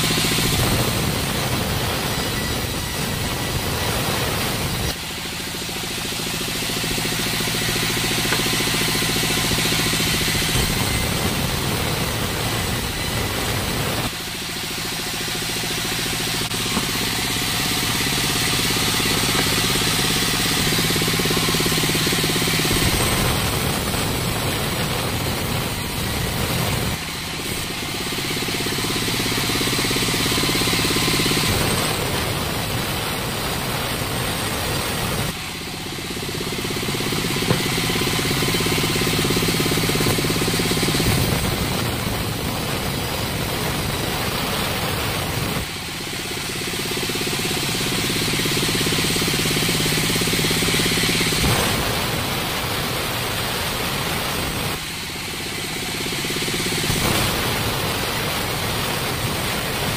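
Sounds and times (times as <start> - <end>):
band saw ripping wood: 0.0 - 59.9.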